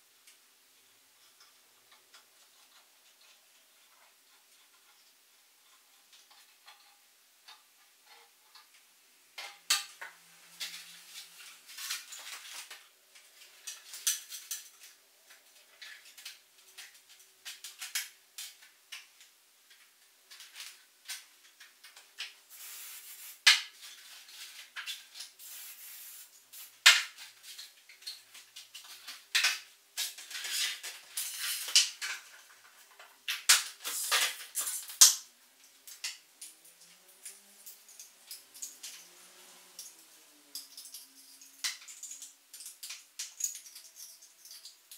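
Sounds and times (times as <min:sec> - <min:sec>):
plastic parts clicking and clattering: 0:01.2 - 0:22.4, 0:26.8 - 0:44.9.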